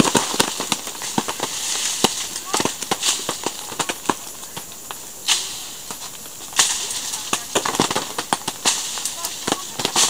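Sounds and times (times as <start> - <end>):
plastic tarp crackling: 0.0 - 5.5, 6.1 - 10.0.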